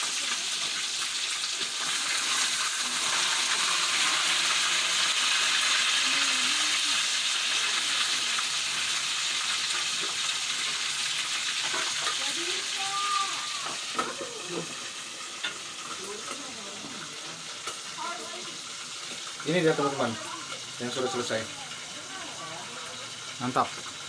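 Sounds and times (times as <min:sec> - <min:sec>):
oil sizzling in a wok: 0:00.0 - 0:24.0.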